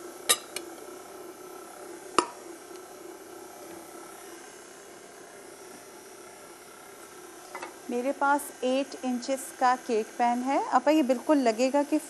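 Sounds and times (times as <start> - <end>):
stand mixer humming: 0.0 - 12.0.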